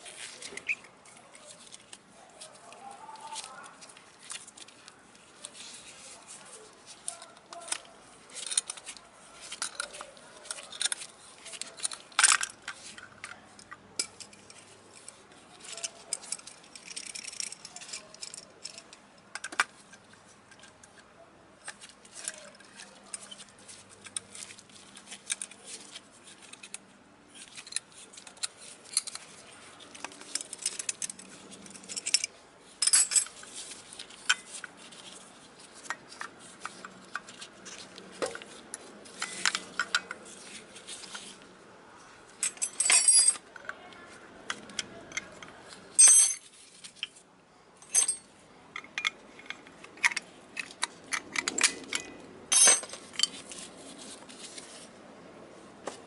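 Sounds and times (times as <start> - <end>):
metal parts and hand tools clicking: 0.0 - 41.5, 42.3 - 43.8, 44.5 - 47.2, 47.8 - 54.8.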